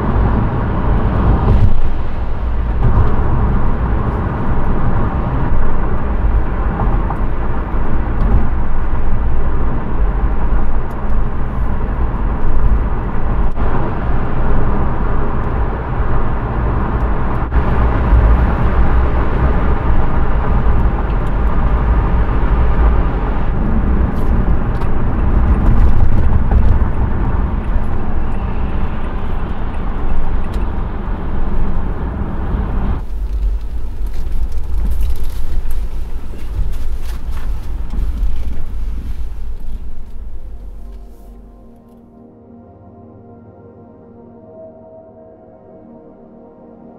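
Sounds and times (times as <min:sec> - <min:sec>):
road rumble inside car: 0:00.0 - 0:42.0.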